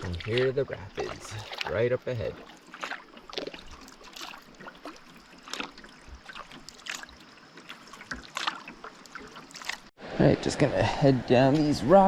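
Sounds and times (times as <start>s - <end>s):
paddle strokes in water: 0.0s - 9.9s
water splashes and drips: 0.0s - 10.0s.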